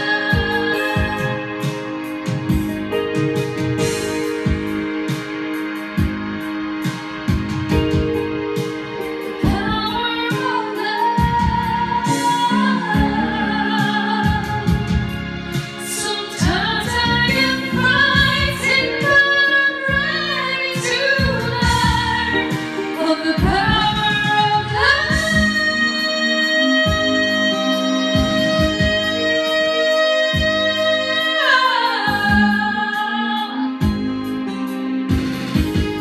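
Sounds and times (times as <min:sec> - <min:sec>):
woman singing into microphone: 0:00.0 - 0:05.1, 0:07.2 - 0:35.0
music backing track: 0:00.0 - 0:36.0.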